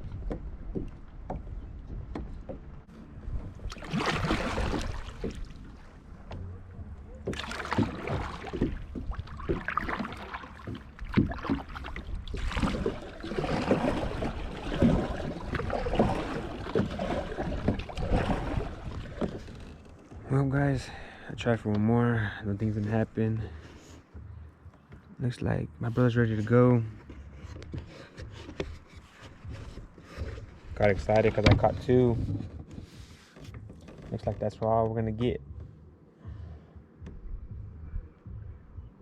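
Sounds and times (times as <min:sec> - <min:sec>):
water sloshing around a kayak: 0:00.0 - 0:21.8, 0:25.9 - 0:37.5.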